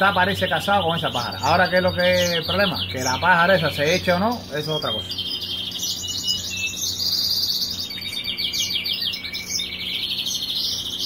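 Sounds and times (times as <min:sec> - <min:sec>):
goldfinches twittering trills: 0:00.0 - 0:11.0.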